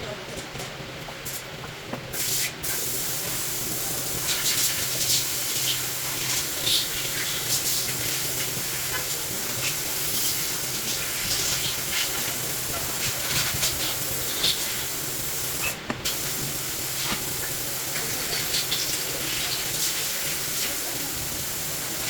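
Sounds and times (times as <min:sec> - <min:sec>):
steady hissing noise: 0:01.2 - 0:22.0.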